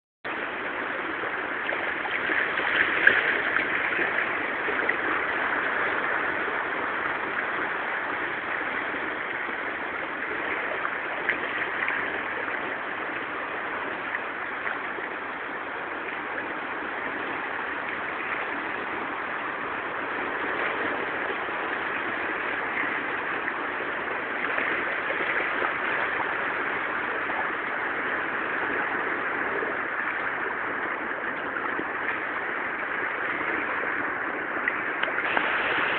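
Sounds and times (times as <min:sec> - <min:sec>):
sea waves washing over rocks: 0:00.3 - 0:35.9.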